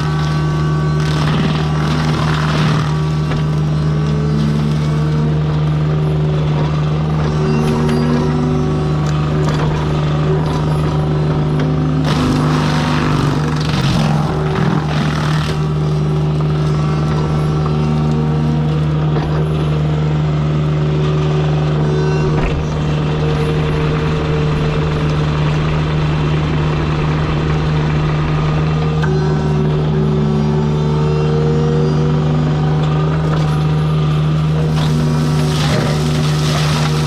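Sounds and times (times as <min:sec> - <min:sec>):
high hydraulic whining tones: 0:00.0 - 0:20.8, 0:21.5 - 0:37.0
excavator diesel engine hum: 0:00.0 - 0:37.0.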